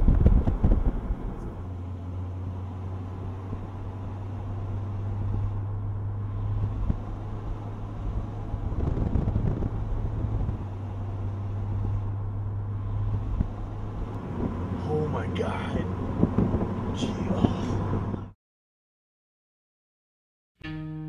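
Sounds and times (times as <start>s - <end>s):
car engine and road drone: 0.0s - 18.4s.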